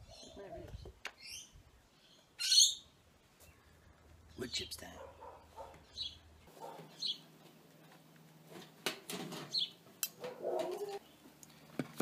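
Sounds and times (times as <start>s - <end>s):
birds chirping: 0.0s - 8.5s, 9.4s - 11.7s.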